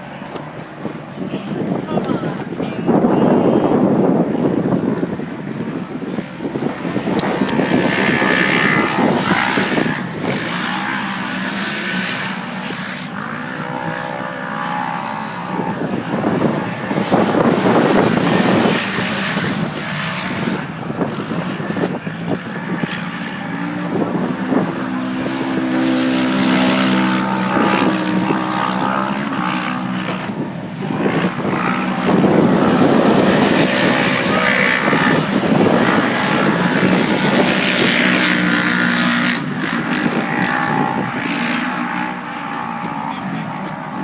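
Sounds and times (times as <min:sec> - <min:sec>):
race vehicle engine revving: 0:00.0 - 0:44.0
rough ground noise: 0:00.0 - 0:44.0
wind: 0:00.0 - 0:44.0.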